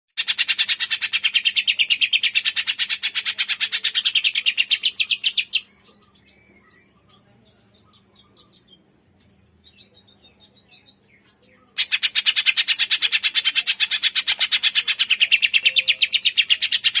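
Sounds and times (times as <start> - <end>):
bird singing rapid trill: 0.2 - 17.0
faint bird chirps: 0.2 - 17.0.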